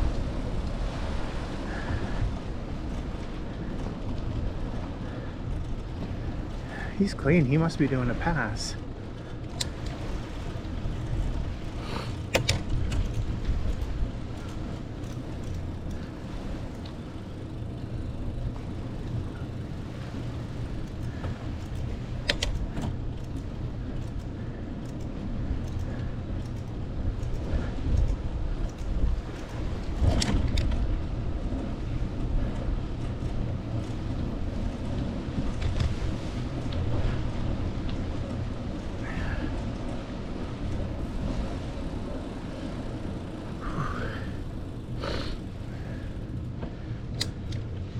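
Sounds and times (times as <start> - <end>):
wind rumble on microphone: 0.0 - 47.9
bike clicks: 1.7 - 7.0, 8.8 - 47.9.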